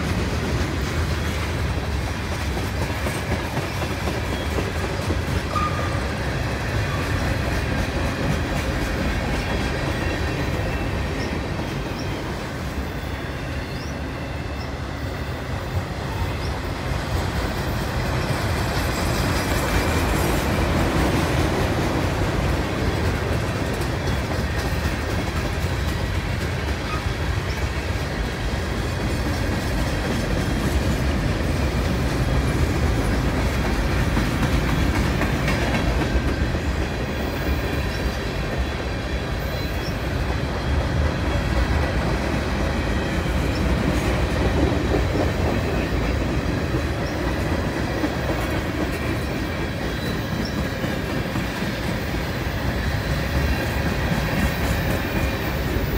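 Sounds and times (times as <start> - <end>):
freight train rolling past: 0.0 - 55.9
steel wheels on rails: 0.0 - 55.9.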